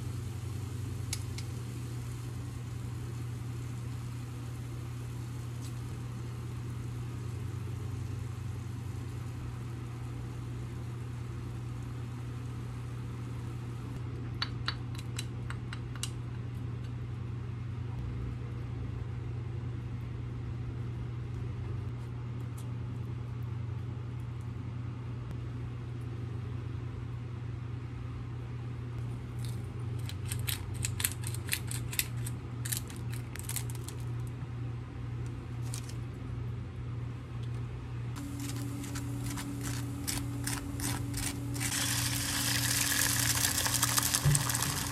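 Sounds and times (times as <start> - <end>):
low mechanical hum: 0.0 - 44.9.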